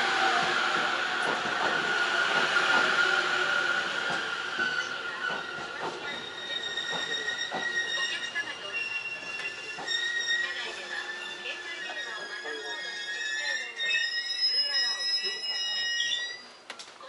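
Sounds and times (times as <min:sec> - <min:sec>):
train running noise: 0:00.0 - 0:15.6
high wheel squeal: 0:02.0 - 0:16.5.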